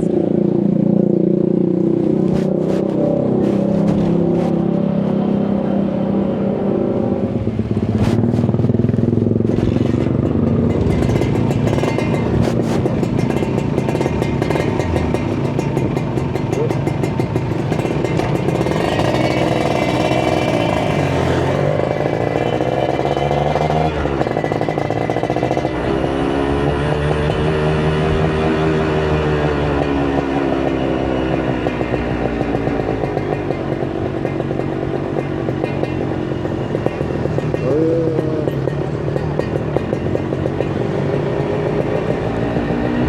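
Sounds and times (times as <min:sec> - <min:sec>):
engine crackles: 0:00.0 - 0:43.0
motorcycle engine revving: 0:00.0 - 0:43.0.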